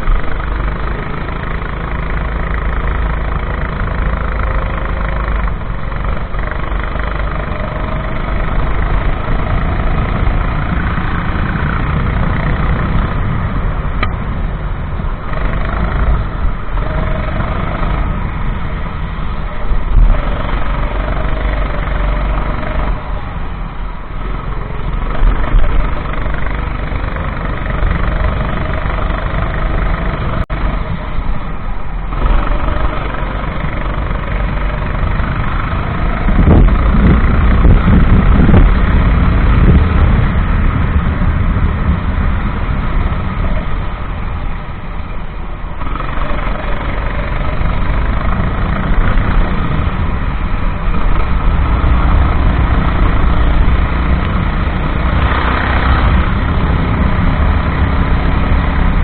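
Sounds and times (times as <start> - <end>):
go-kart engine revving: 0.0 - 59.0
wind and road noise: 0.0 - 59.0.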